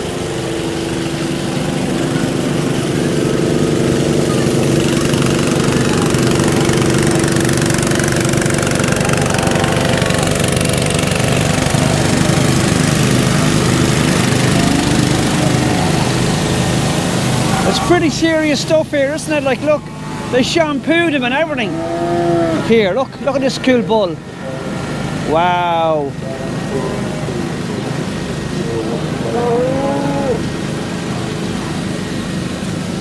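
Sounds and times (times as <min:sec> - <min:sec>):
blower motor hum and air rush: 0:00.0 - 0:33.0.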